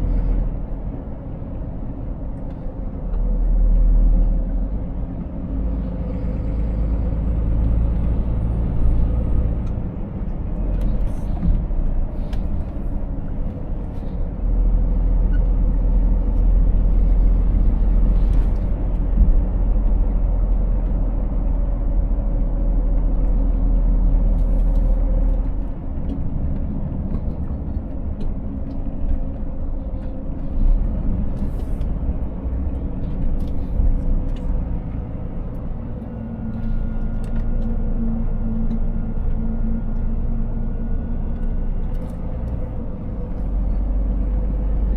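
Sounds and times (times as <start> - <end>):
road noise: 0.0 - 44.9
truck engine drone: 0.0 - 44.9.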